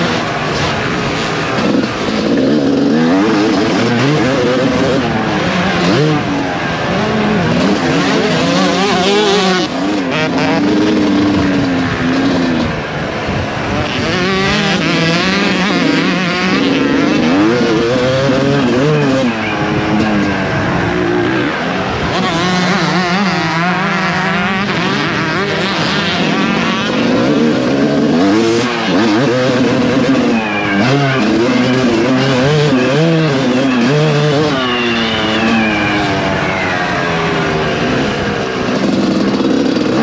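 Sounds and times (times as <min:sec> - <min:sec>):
motocross engine revving: 0:00.0 - 0:40.0.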